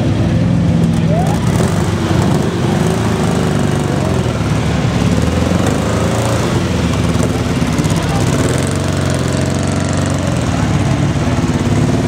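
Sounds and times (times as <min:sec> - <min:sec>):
off-road truck engines droning: 0:00.0 - 0:12.0.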